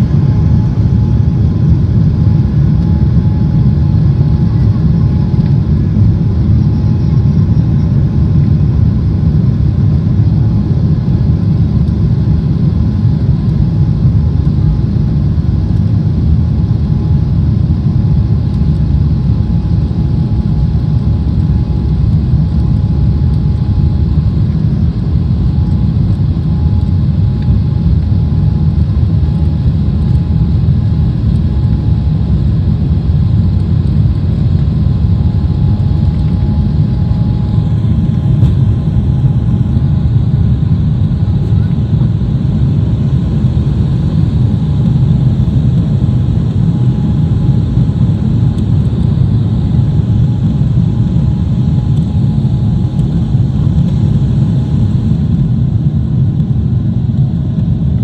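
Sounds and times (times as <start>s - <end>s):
faint engine whine: 0.0s - 58.0s
jet engines rumbling: 0.0s - 58.0s.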